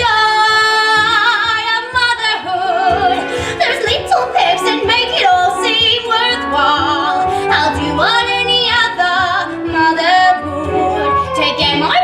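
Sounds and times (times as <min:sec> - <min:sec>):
backing music: 0:00.0 - 0:12.0
women singing: 0:00.0 - 0:12.0.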